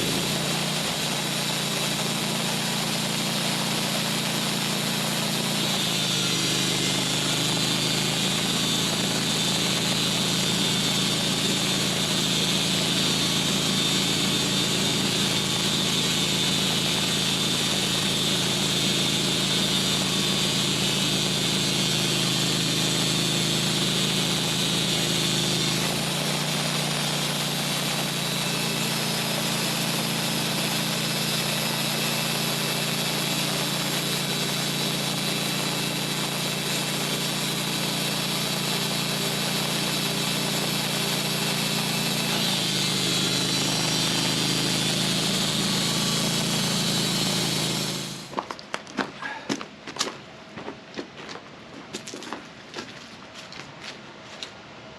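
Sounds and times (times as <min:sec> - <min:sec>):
saw whining through log: 0:00.0 - 0:48.4
sawmill engine running: 0:00.0 - 0:53.8.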